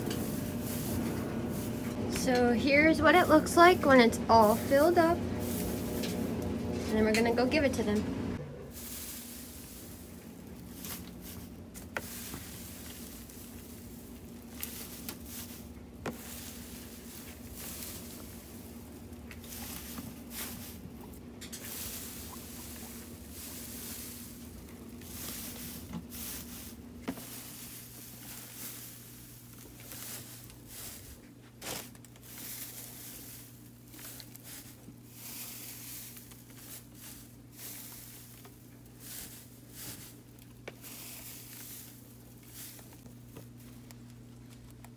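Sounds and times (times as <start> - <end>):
dry hay rustling and crackling: 0.0 - 7.5, 8.6 - 44.9
steady low hum: 0.0 - 44.9.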